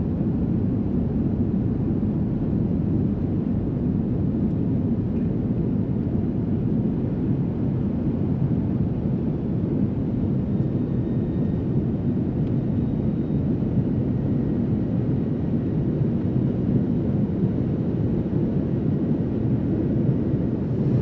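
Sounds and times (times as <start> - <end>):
jet airliner cabin noise: 0.0 - 21.0.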